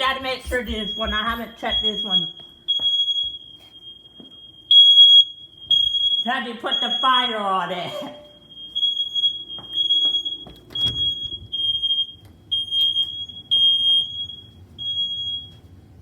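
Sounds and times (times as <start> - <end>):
smoke alarm beeping: 0.0 - 15.7.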